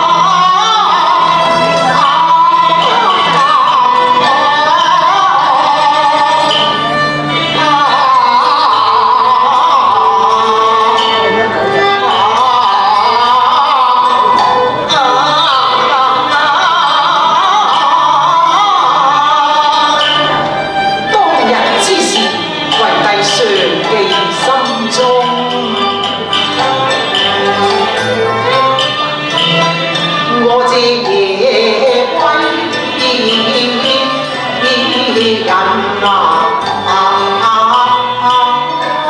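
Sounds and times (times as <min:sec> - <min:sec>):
opera singing with sliding pitch: 0:00.0 - 0:39.0
small instrumental ensemble: 0:00.0 - 0:39.0.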